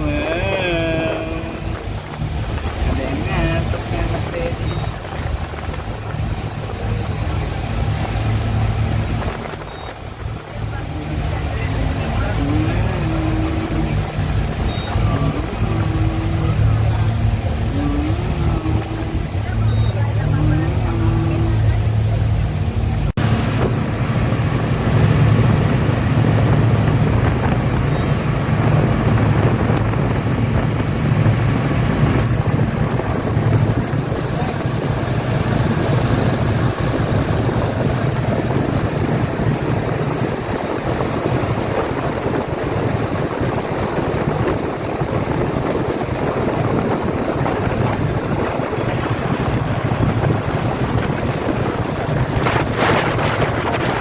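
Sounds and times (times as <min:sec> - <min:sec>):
speedboat engines droning: 0:00.0 - 0:54.0
water rushing: 0:00.0 - 0:54.0
wind buffeting microphone: 0:00.0 - 0:54.0.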